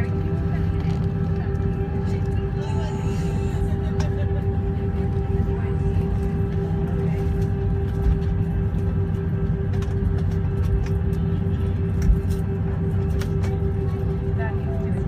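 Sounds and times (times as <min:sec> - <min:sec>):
airliner cabin engine rumble: 0:00.0 - 0:15.0
droning hum: 0:00.0 - 0:15.0.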